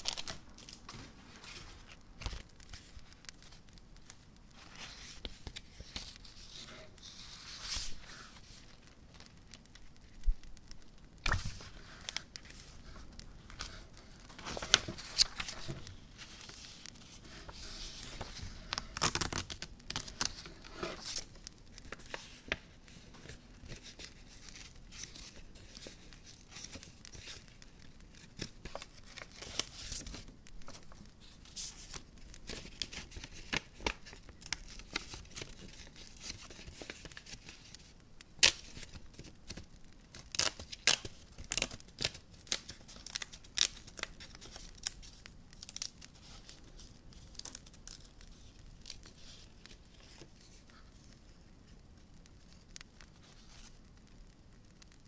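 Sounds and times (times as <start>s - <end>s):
packaging rustling and crinkling: 0.0s - 53.9s
sharp crackles and snaps: 0.0s - 55.0s.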